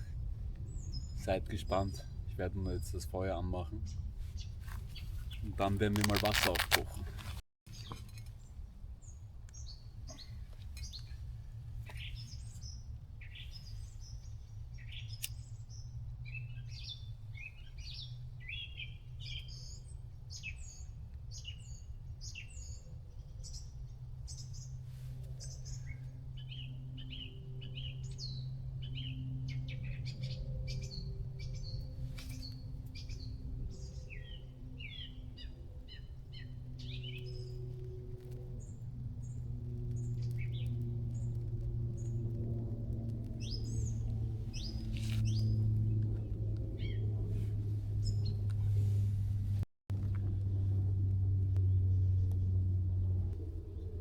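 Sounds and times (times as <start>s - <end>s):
songbirds chirping: 0.0s - 7.0s, 7.7s - 54.0s
steady low rumble: 0.0s - 7.4s, 8.1s - 54.0s.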